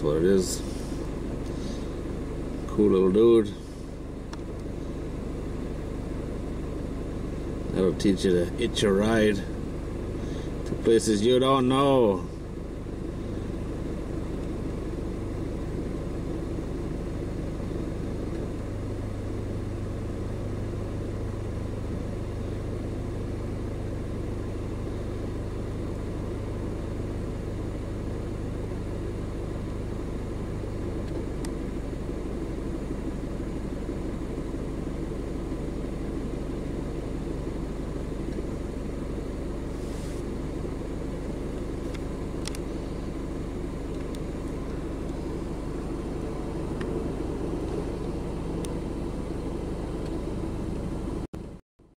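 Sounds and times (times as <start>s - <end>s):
truck engine humming: 0.0s - 51.6s.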